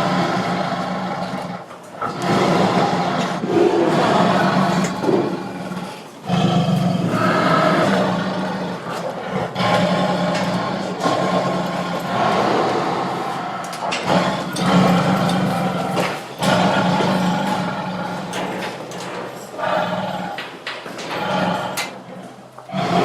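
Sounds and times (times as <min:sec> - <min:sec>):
tiger roaring: 0:00.0 - 0:23.0.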